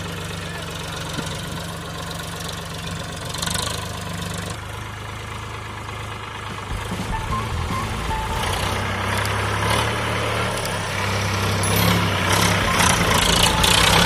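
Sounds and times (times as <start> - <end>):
tractor diesel engine passing: 0.0 - 14.0.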